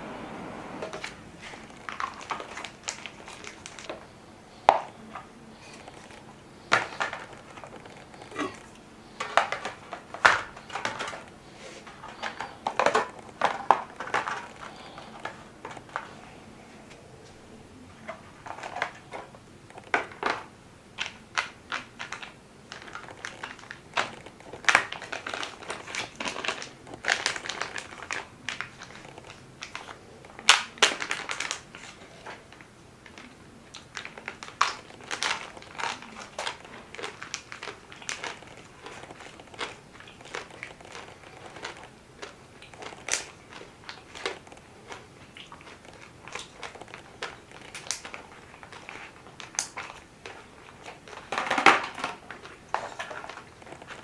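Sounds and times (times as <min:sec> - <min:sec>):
food crunching and crinkling: 0:00.8 - 0:54.0.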